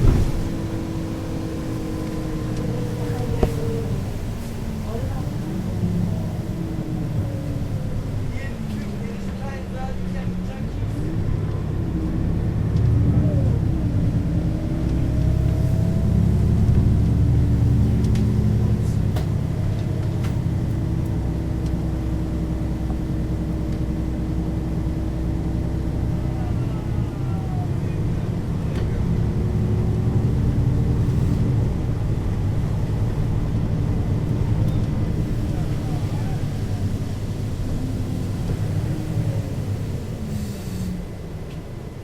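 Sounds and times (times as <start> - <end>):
bus diesel engine drone: 0.0 - 42.0.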